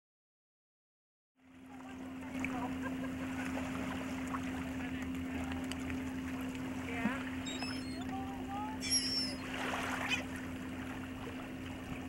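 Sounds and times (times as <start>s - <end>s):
steady low hum: 1.4s - 12.0s
water and wind hiss: 1.7s - 12.0s.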